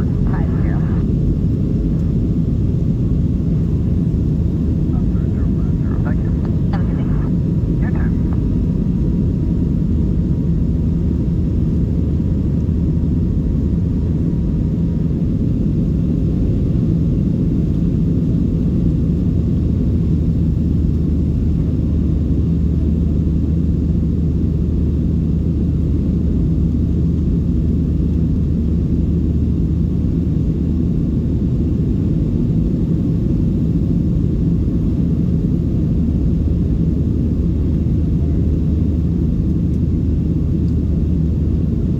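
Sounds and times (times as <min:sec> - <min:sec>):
jet engine rumble in cabin: 0:00.0 - 0:41.9.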